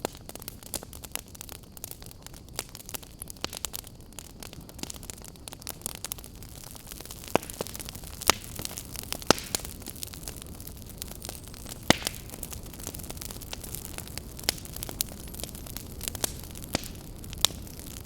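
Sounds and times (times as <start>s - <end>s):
campfire crackling: 0.0s - 18.0s
sharp fire pops: 0.0s - 18.0s.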